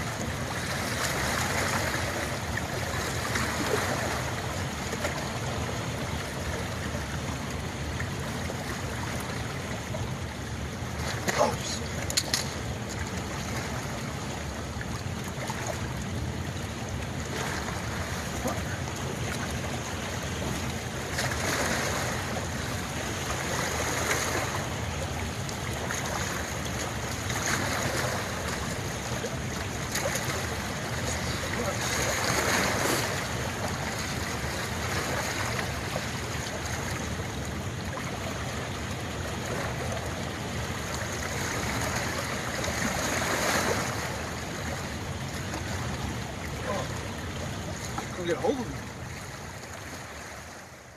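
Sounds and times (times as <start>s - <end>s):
water rushing over spillway: 0.0s - 50.9s.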